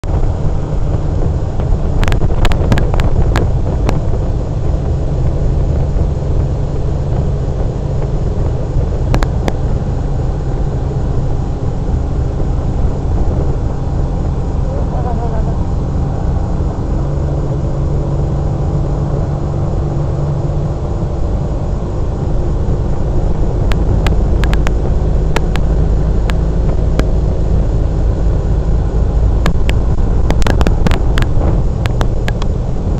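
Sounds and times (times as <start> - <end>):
outboard motor running: 0.0 - 32.9
wind rumbling on microphone: 0.0 - 32.9.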